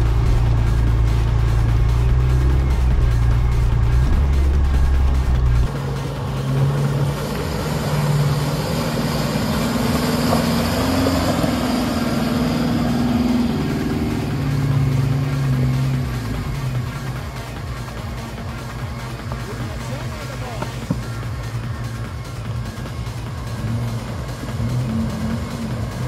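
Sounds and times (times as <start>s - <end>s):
deep engine drone: 0.0s - 26.0s
engine pulling through water: 0.0s - 26.0s.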